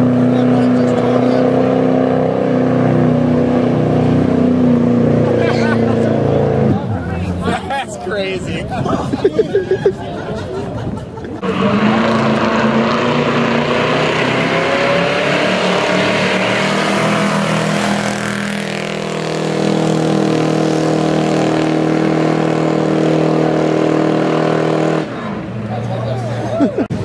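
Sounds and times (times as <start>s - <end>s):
car engine revving high: 0.0s - 7.0s, 11.4s - 26.3s.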